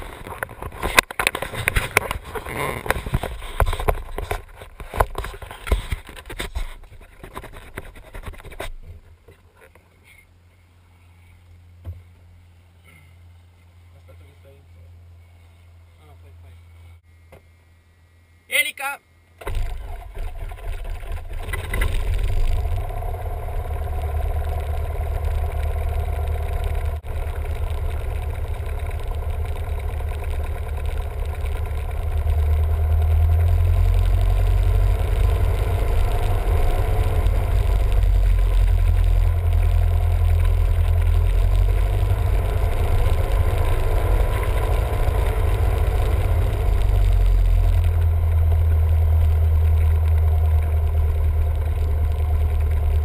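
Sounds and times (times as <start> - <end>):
propeller plane engine running: 0.0 - 9.0, 19.4 - 53.0.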